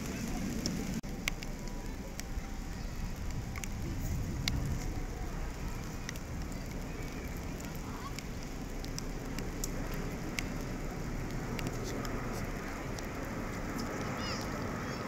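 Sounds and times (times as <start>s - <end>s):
light rain falling: 0.0s - 15.0s
low steady rumble: 0.0s - 15.0s
raindrops tapping on umbrellas: 0.0s - 15.0s.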